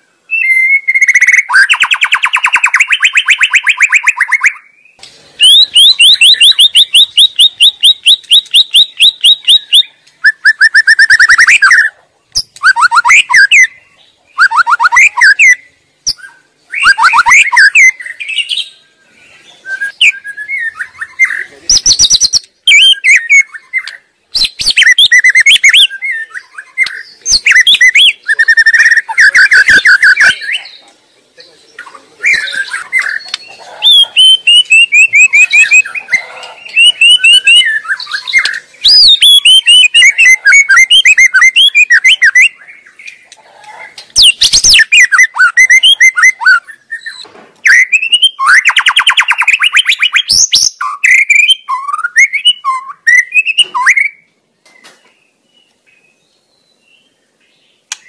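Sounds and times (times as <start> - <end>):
songbird whistling and trilling: 0.0 - 30.8, 31.9 - 57.2.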